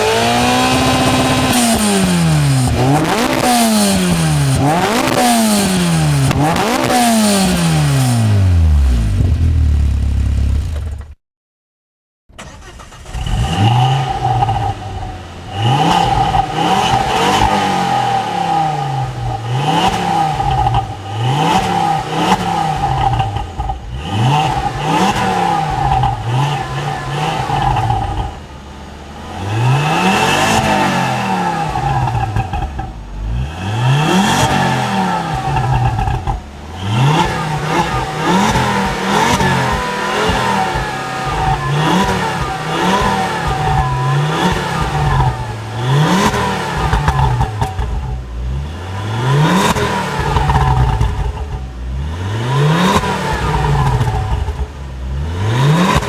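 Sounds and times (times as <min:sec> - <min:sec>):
car engine revving: 0:00.0 - 0:10.9, 0:12.4 - 0:56.0.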